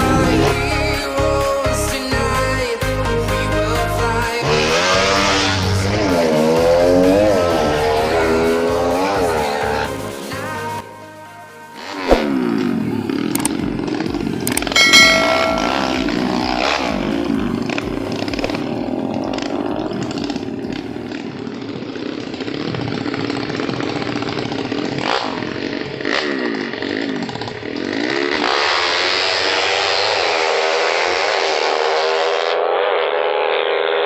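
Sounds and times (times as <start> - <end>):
motorcycle engines revving: 0.0 - 1.4, 3.5 - 10.8, 11.7 - 34.0.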